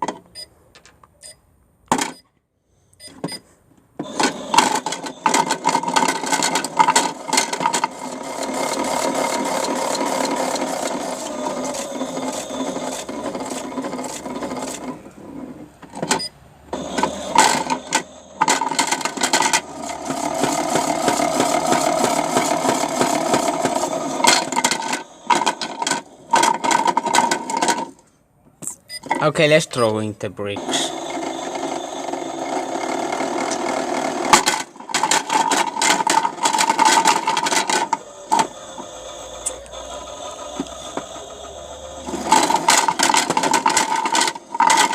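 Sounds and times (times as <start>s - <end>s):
rocks rattling in toy washing machine: 4.0s - 15.1s, 16.8s - 28.0s, 30.7s - 44.9s
toy washing machine whirring: 4.0s - 28.0s, 30.6s - 44.9s.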